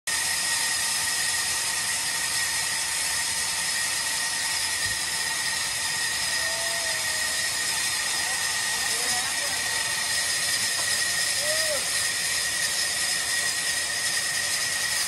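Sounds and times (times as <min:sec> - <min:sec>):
band saw whining: 0:00.1 - 0:15.0.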